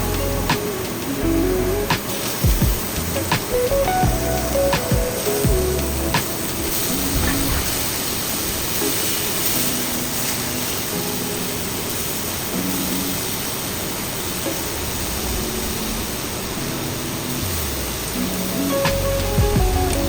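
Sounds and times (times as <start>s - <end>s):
quiet background music: 0.0s - 20.0s
steady hiss: 0.0s - 20.0s.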